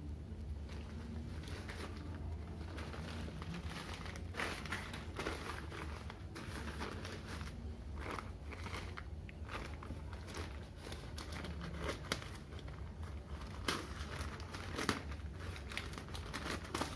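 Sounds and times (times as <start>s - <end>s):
low steady hum: 0.0s - 16.9s
packaging rustling: 0.6s - 16.9s.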